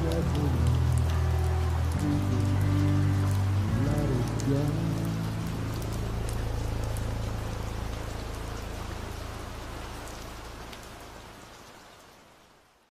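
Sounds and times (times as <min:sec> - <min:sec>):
low rumble: 0:00.0 - 0:11.3
sharp rain drop ticks: 0:00.0 - 0:12.4
steady rain: 0:00.0 - 0:12.9.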